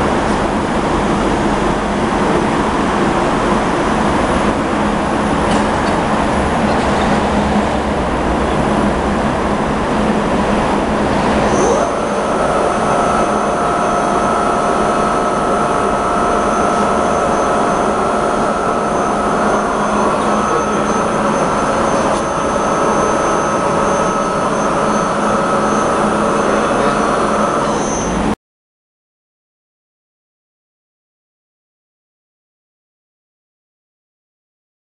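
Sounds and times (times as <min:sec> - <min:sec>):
high mechanical whine: 0:00.0 - 0:28.4
milling machine drone: 0:00.0 - 0:28.4.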